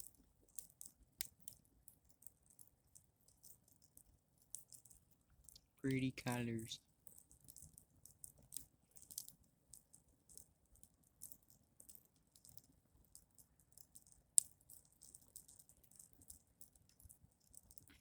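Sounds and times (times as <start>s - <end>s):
burning insulation crackling: 0.0s - 18.0s.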